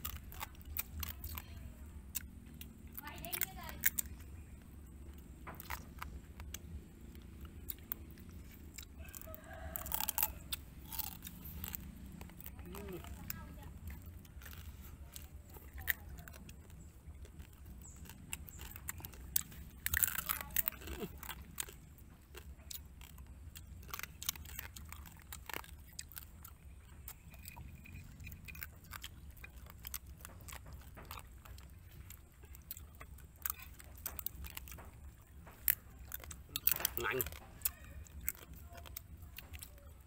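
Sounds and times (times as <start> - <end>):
chewing and crunching crab shell: 0.0 - 40.0.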